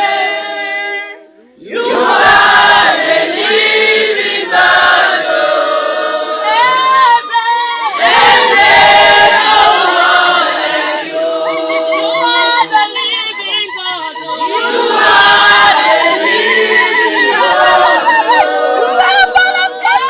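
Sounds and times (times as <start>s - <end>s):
congregation singing unaccompanied: 0.0s - 20.0s.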